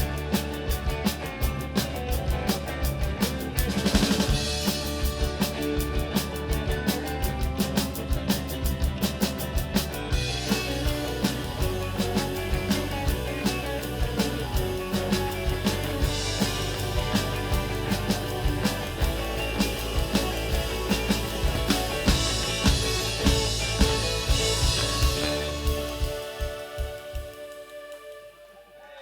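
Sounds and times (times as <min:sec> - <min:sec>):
bass guitar: 0:00.0 - 0:28.0
electric guitar: 0:00.0 - 0:28.4
drum kit with cymbals: 0:00.0 - 0:29.0.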